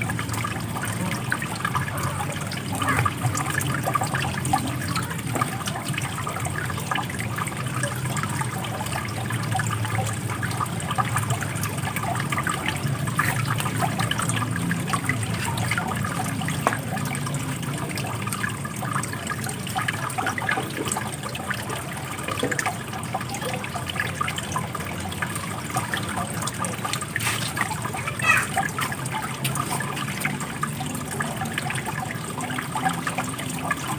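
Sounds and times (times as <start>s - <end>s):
water running and splashing: 0.0s - 33.9s.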